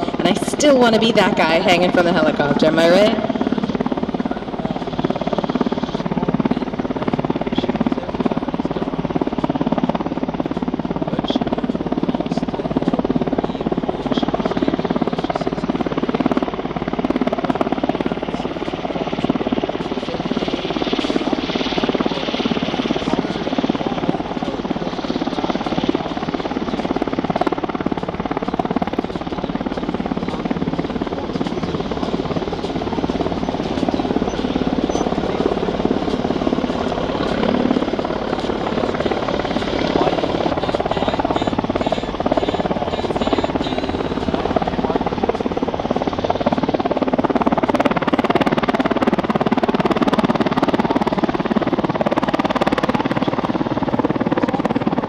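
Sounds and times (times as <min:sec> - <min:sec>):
helicopter rotors and engines droning: 0:00.0 - 0:55.0.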